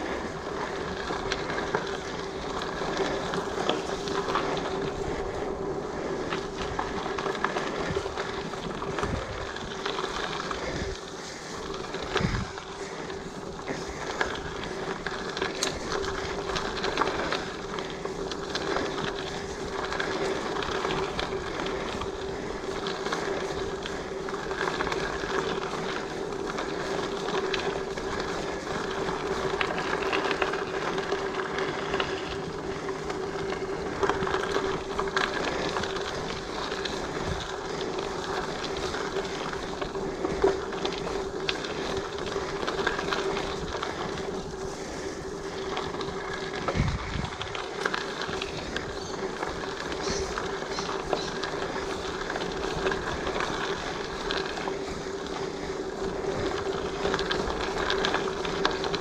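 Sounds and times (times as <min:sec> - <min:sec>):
bike rattling over bumps: 0:00.0 - 0:59.0
tyres rolling on gravel: 0:00.0 - 0:59.0.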